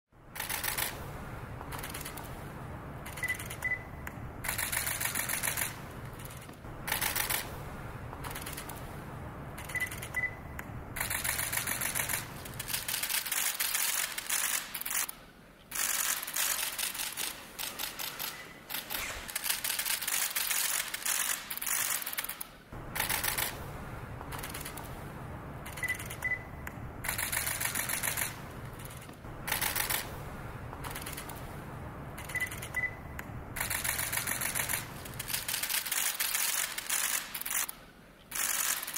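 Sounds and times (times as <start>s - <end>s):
camera shutters clicking in bursts: 0.4s - 2.4s, 3.0s - 3.8s, 4.4s - 9.0s, 9.6s - 10.3s, 11.0s - 23.6s, 24.2s - 25.0s, 25.6s - 26.4s, 27.0s - 30.2s, 30.8s - 31.6s, 32.2s - 32.9s, 33.6s - 38.9s.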